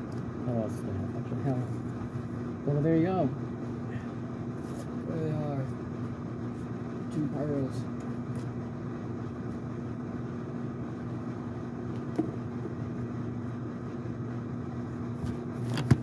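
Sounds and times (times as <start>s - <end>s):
low hum with whirring hiss: 0.0s - 16.0s.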